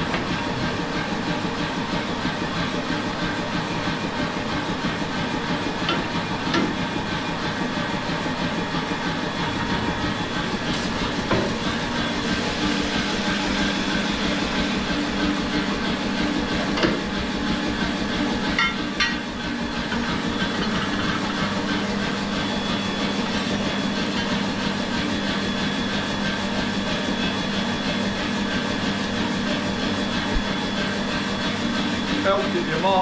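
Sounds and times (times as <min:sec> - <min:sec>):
workshop machinery hum: 0:00.0 - 0:33.0.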